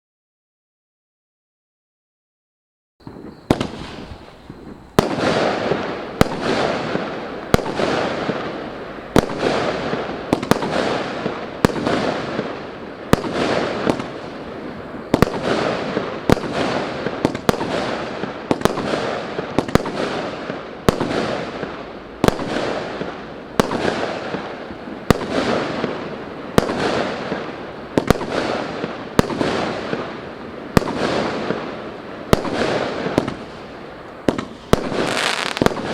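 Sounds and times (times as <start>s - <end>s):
fireworks fizzing: 3.0s - 35.9s
fireworks shots: 3.0s - 35.9s
hissing and crackling: 3.0s - 35.9s.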